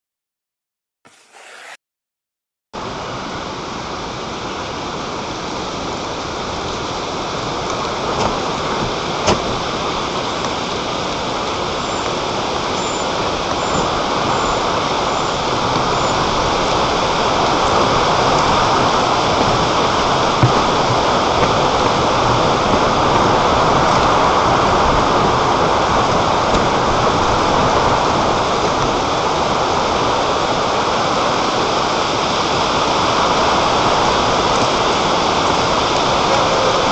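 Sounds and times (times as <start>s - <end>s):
wind blowing across microphone: 2.8s - 36.9s.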